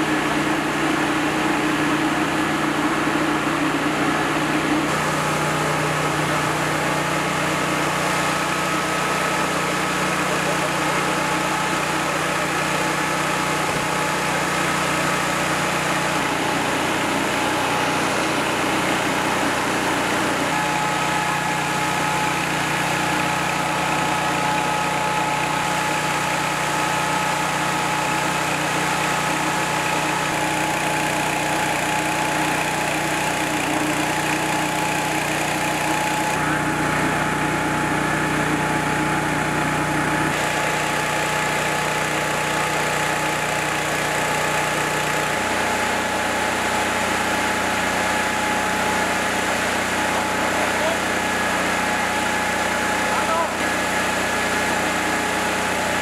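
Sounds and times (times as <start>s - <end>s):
large engine idling: 0.0s - 56.0s.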